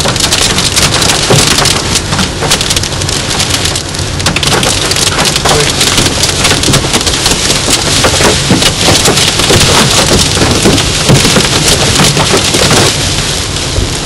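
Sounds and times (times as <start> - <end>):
heavy rain on car: 0.0 - 14.0.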